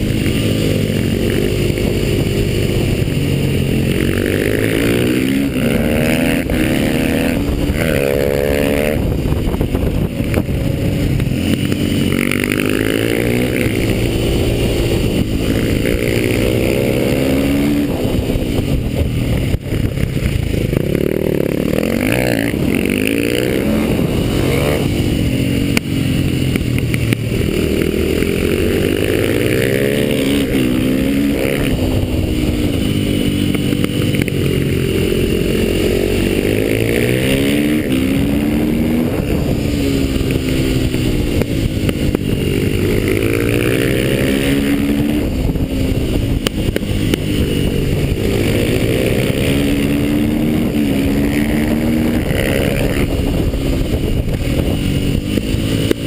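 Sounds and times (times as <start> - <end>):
motorcycle engine revving: 0.0 - 56.0
rush of wind: 0.0 - 56.0.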